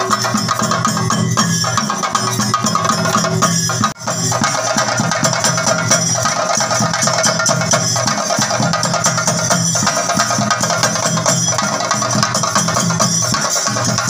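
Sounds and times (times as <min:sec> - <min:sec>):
drums beaten in fast rhythm: 0:00.0 - 0:14.0.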